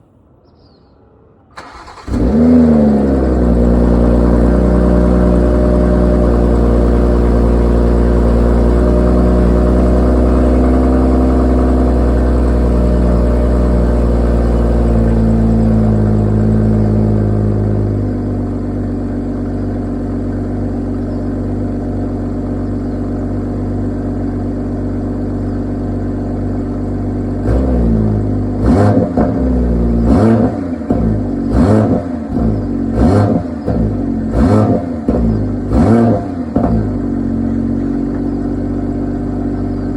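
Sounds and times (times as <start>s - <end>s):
car engine idling and revving: 1.6s - 39.9s.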